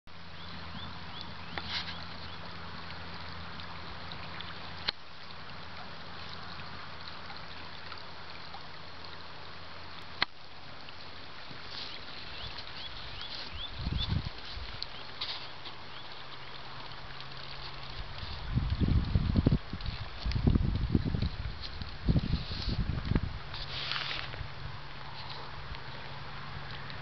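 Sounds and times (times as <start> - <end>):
river flowing over gravel: 0.1 - 27.0.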